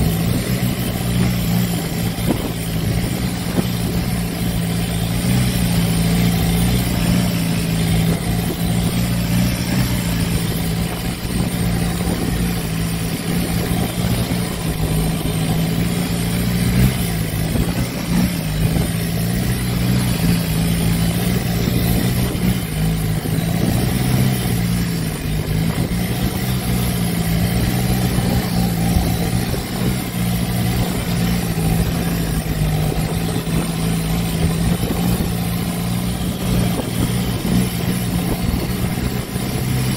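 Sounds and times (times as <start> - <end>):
boat engine running: 0.0 - 39.9
wind and water rushing: 0.0 - 39.9.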